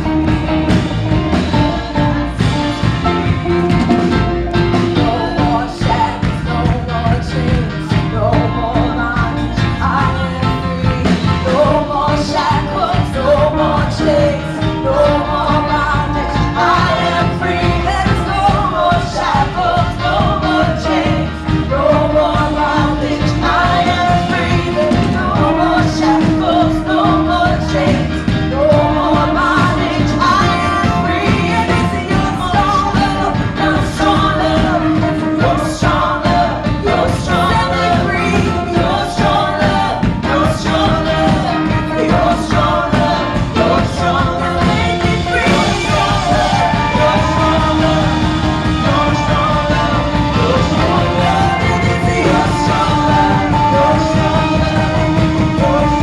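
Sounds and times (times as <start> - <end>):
band playing upbeat song: 0.0 - 56.0
people singing: 0.0 - 56.0.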